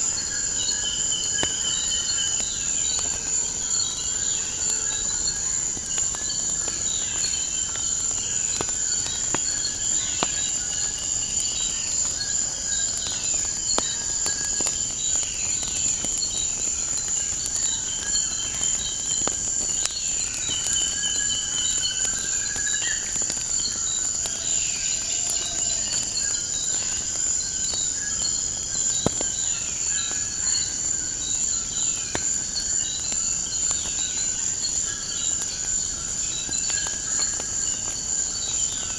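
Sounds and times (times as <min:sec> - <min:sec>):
crickets trilling: 0:00.0 - 0:38.9
wood fire crackling: 0:00.0 - 0:38.9.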